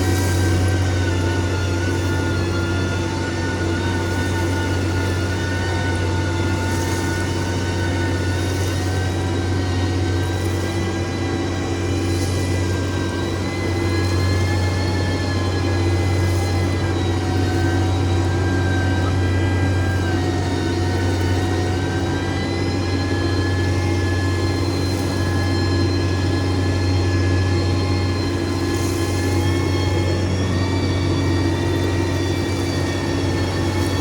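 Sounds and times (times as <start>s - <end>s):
heavy machine engine drone: 0.0s - 34.0s
thin high whine: 0.0s - 34.0s.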